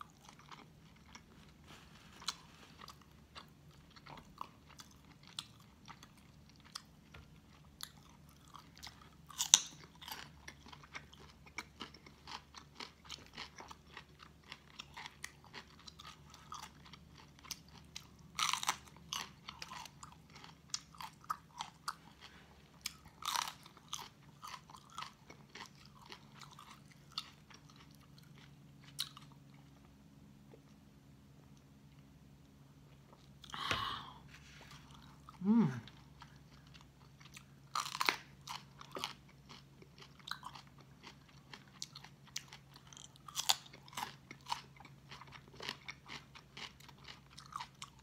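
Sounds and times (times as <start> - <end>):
crunching and chewing cucumber: 0.0 - 30.8, 34.4 - 48.0.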